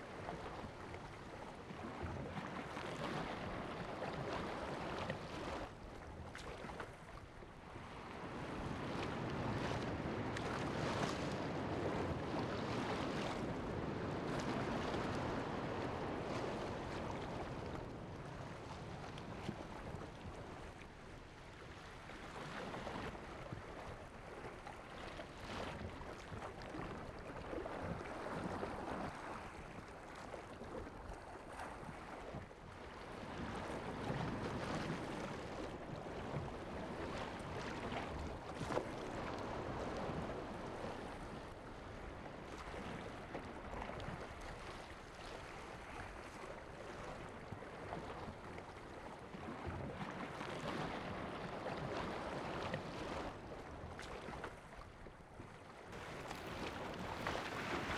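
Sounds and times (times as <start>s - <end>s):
sea water lapping: 0.0s - 57.9s
wind: 0.0s - 57.9s.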